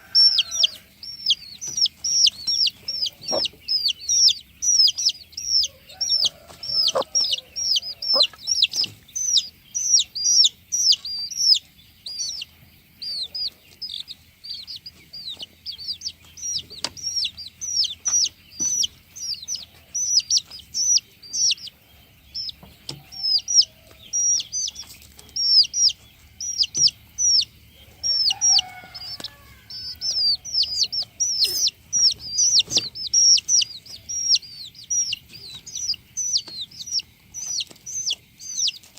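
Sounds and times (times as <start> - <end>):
chicken clucks: 0.0 - 38.9
chicks peeping: 0.0 - 38.9.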